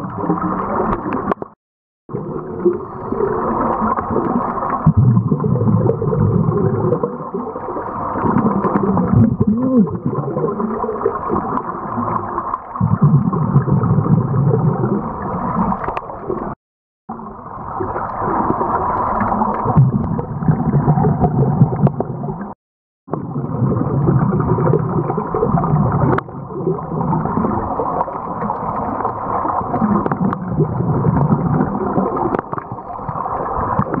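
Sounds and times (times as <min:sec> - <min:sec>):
bubbles gurgling: 0:00.0 - 0:34.0.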